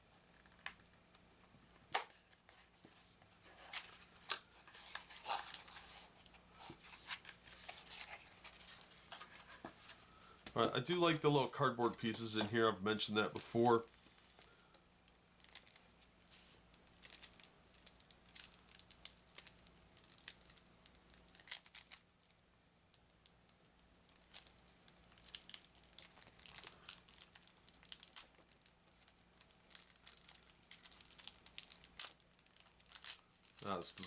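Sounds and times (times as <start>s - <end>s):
plastic wrapping crinkling and tearing: 3.4s - 14.8s, 15.4s - 16.0s, 16.8s - 22.4s, 23.7s - 34.0s.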